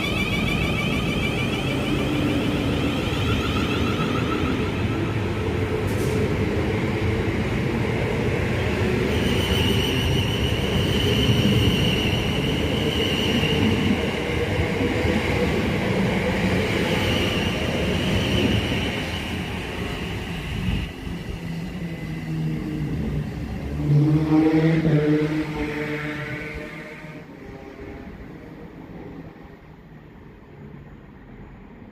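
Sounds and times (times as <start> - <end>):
electric train rumble and whine: 0.0 - 31.9.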